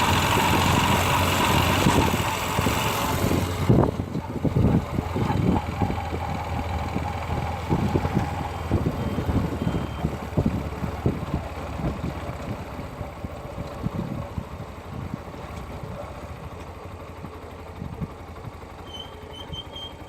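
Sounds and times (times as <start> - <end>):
irregular engine clattering: 0.0 - 20.0
motorcycle engine running: 0.0 - 20.0.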